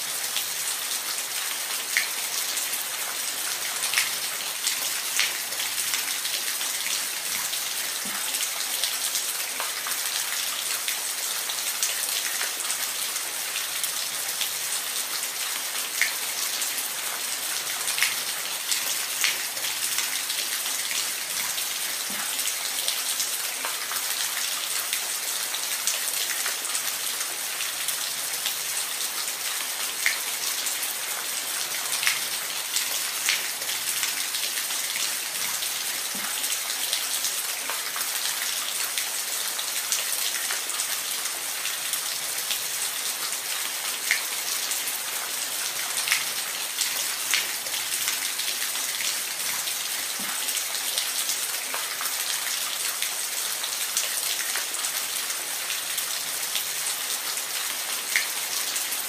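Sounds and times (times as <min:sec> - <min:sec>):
sharp drips and splashes: 0:00.0 - 0:59.0.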